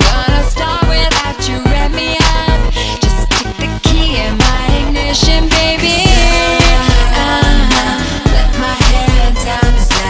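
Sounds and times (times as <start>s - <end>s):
hip-hop music with heavy beat: 0.0s - 10.0s.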